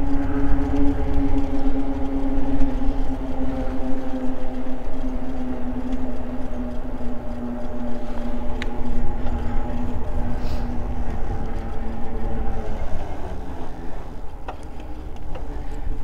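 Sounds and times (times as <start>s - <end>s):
electric bike whine: 0.0s - 16.0s
wind rumble on microphone: 0.0s - 16.0s.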